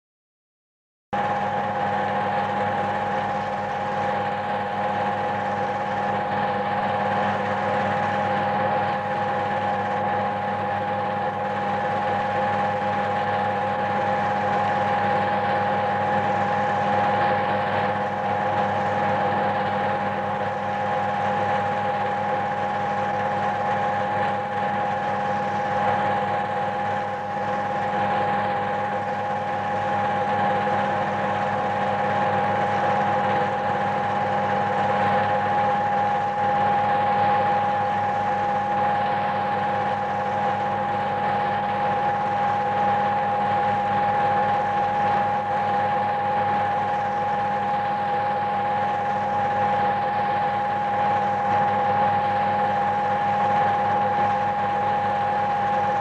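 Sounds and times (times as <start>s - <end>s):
mechanical hum with high whine: 1.2s - 56.0s.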